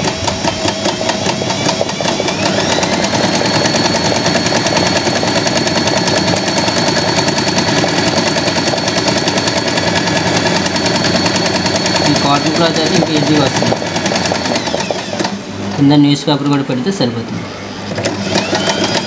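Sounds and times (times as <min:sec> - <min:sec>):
electric sewing machine running: 0:00.0 - 0:15.9, 0:17.8 - 0:19.0.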